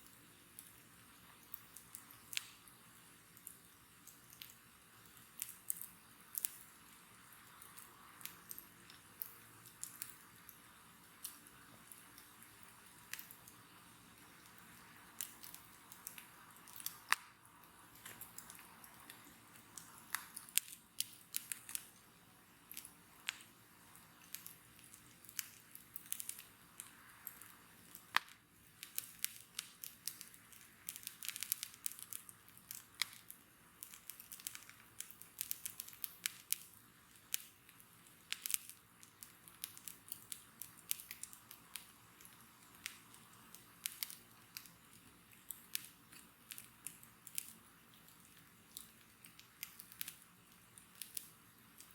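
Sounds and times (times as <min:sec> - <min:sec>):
bonfire crackling and popping: 0:00.0 - 0:51.9
soft hiss: 0:00.0 - 0:51.9.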